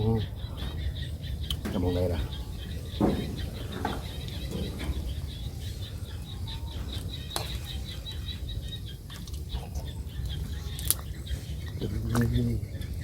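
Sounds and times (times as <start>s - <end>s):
low background rumble: 0.0s - 13.0s
rapid high chirping: 0.0s - 13.0s.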